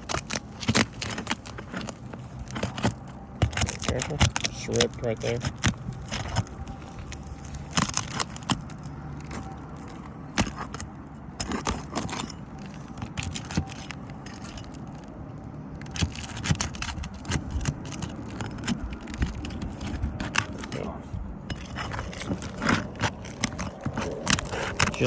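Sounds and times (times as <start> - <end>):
pry tool clicking and scraping: 0.0 - 15.2, 15.8 - 25.0.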